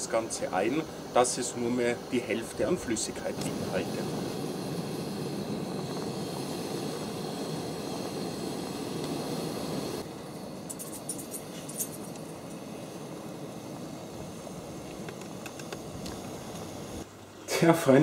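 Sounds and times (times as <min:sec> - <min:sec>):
gas stove burning: 0:00.0 - 0:18.0.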